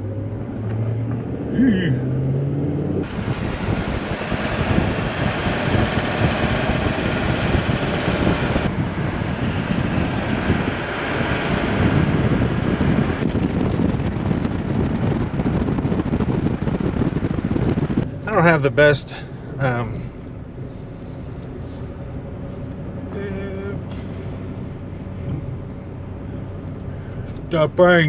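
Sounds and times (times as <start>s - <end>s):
wind rushing over microphone: 0.0s - 27.9s
tyre and road noise: 0.0s - 28.0s.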